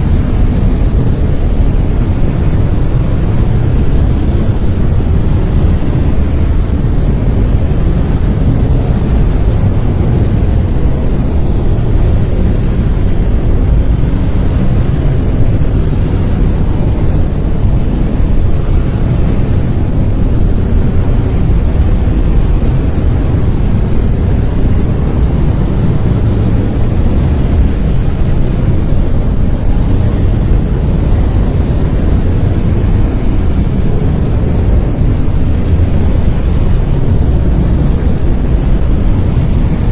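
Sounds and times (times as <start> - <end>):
brown noise: 0.0 - 39.9.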